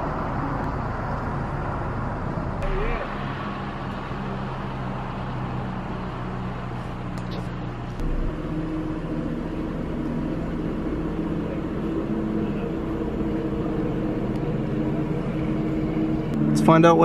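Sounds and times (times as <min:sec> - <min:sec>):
vehicle engines idling: 0:00.0 - 0:17.0.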